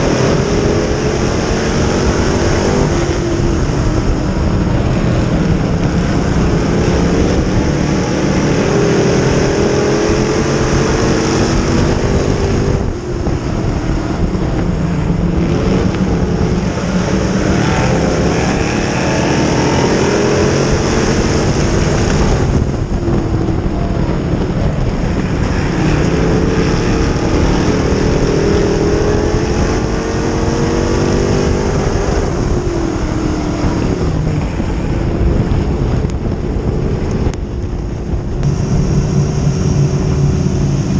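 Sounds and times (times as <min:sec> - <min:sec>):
race car engine revving: 0:00.0 - 0:37.4, 0:38.0 - 0:40.9
wind noise on microphone: 0:00.0 - 0:40.9.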